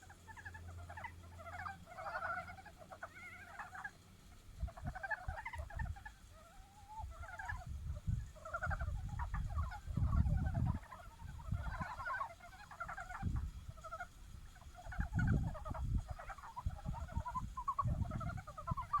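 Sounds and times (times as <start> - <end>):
chorus of frogs calling: 0.0 - 19.0.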